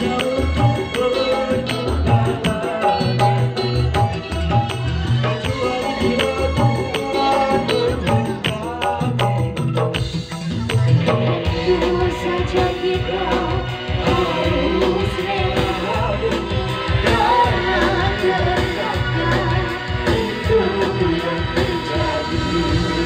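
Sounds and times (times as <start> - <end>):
woman singing into a microphone: 0.0 - 9.8, 10.5 - 23.0
electronic keyboard: 0.0 - 23.0
steady beat: 0.0 - 23.0.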